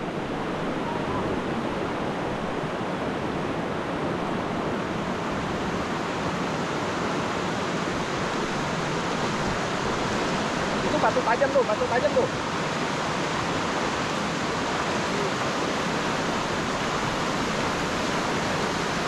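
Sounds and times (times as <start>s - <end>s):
river rapids rushing: 0.0s - 19.0s.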